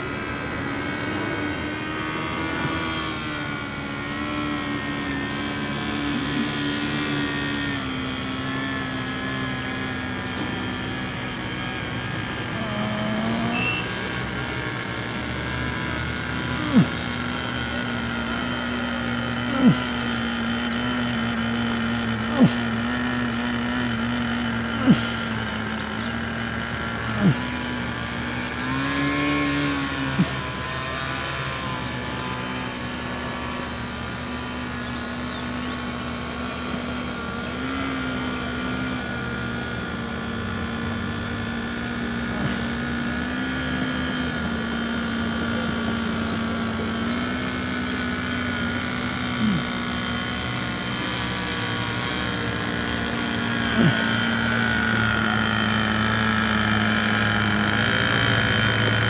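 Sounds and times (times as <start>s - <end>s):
small engine buzzing: 0.0s - 59.0s.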